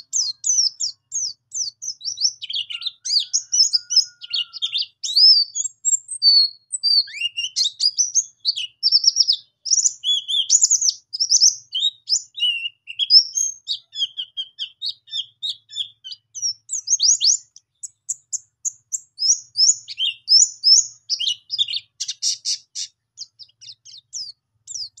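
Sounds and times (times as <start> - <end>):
bird singing trills: 0.0 - 25.0.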